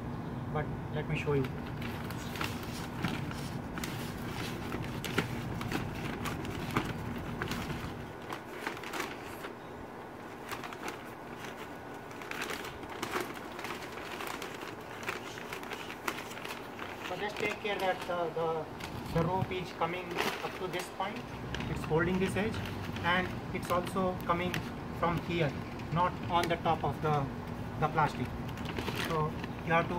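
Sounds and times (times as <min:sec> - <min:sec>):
low background hum: 0:00.0 - 0:29.9
paper bag rustling and crinkling: 0:01.1 - 0:29.9.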